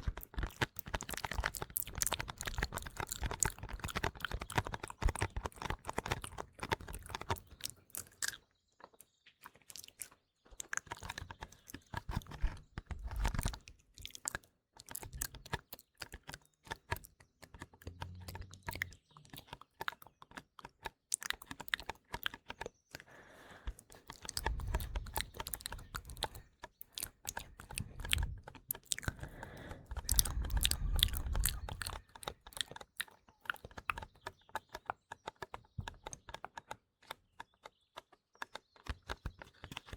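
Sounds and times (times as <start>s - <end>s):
wet mouth clicks and smacks: 0.0s - 8.4s, 9.0s - 34.2s.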